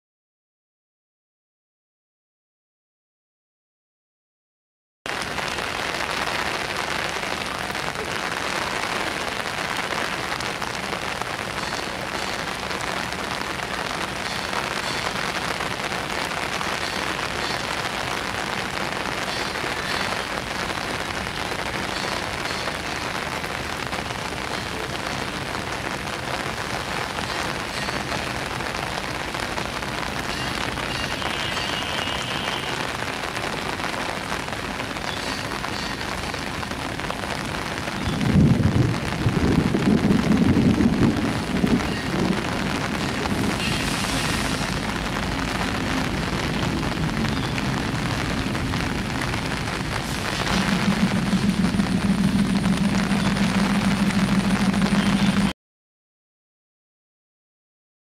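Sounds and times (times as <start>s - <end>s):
heavy rain falling: 5.1s - 55.6s.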